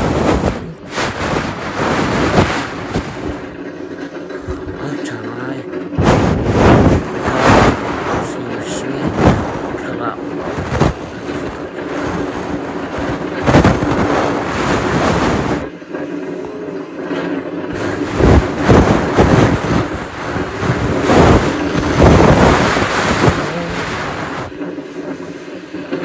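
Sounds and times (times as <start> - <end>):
wind gusting against microphone: 0.0 - 4.8, 6.0 - 15.7, 17.6 - 24.7.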